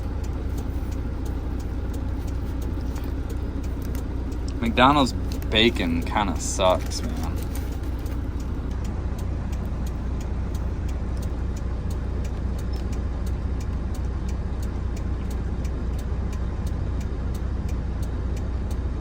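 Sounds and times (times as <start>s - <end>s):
diesel engine idling: 0.0s - 19.0s
even ticking: 0.0s - 19.0s.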